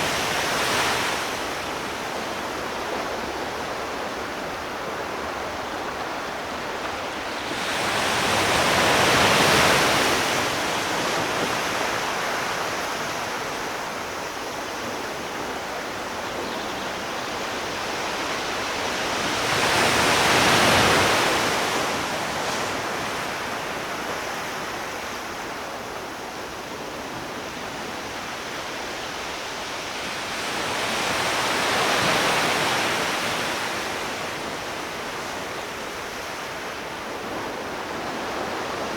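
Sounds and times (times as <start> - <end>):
sea waves breaking on shore: 0.0 - 16.2, 16.9 - 38.9.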